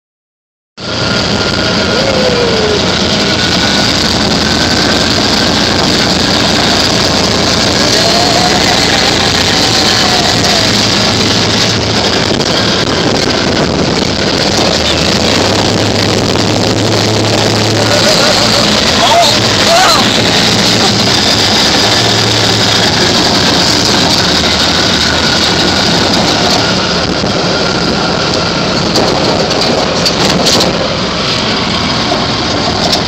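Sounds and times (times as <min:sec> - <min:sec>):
off-road vehicle engine drone: 0:00.8 - 0:33.0
wind: 0:00.8 - 0:33.0.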